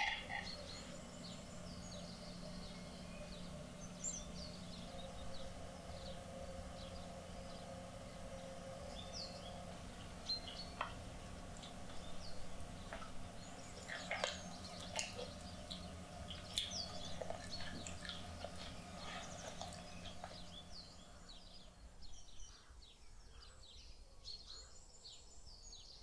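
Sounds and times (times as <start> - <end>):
birds chirping: 0.0 - 26.0
low steady hum: 0.0 - 26.0.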